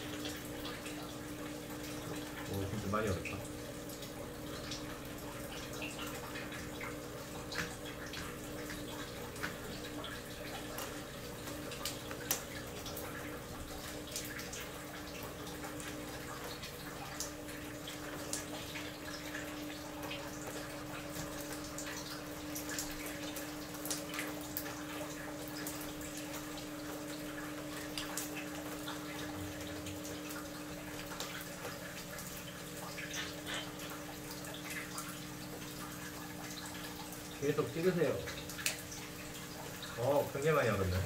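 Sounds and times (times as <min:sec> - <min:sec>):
water dripping and spattering: 0:00.0 - 0:41.0.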